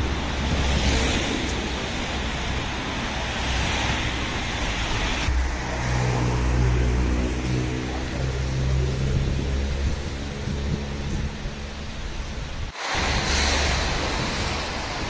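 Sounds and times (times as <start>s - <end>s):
low engine hum: 0.0s - 15.0s
street traffic rush: 0.0s - 15.0s.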